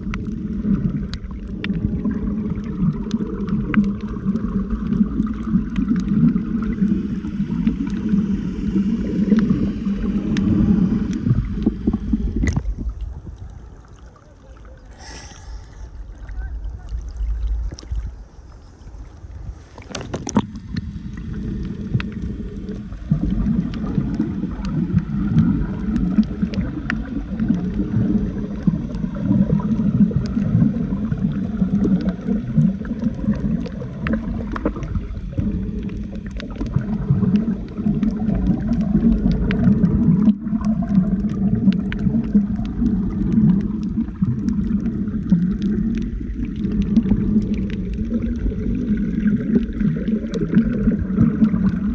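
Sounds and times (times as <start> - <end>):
muffled underwater rush: 0.0 - 51.9.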